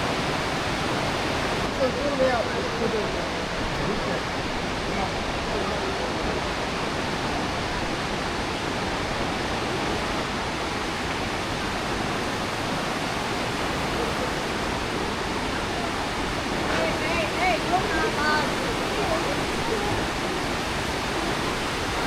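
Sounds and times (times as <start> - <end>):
river rushing through gorge: 0.0 - 22.0.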